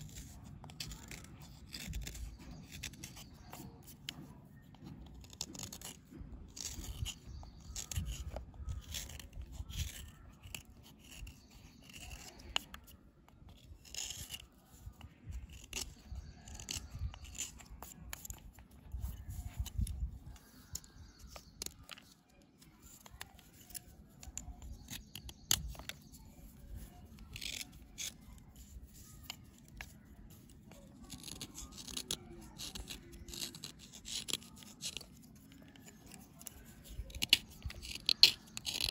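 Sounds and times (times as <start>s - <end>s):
knife scraping a dry bar: 0.0s - 38.9s.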